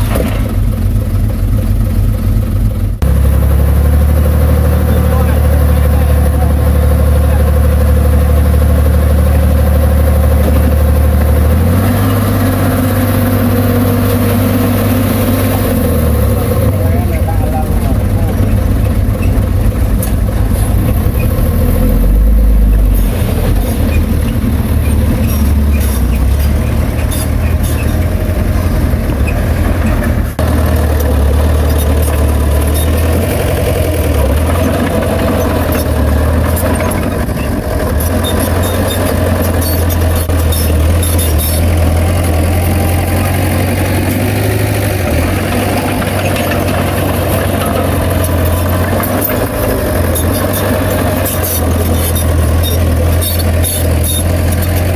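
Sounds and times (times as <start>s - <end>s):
heavy diesel engine rumbling: 0.0s - 54.9s.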